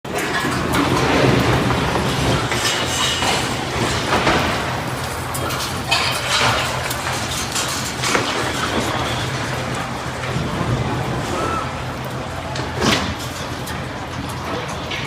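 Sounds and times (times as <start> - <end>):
metallic clattering and creaking: 0.1 - 15.0
low rumbling: 0.3 - 15.0.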